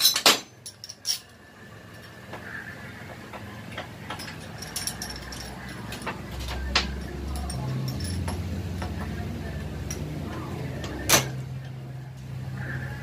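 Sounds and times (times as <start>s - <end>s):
metal tools clicking and tapping: 0.0s - 11.8s.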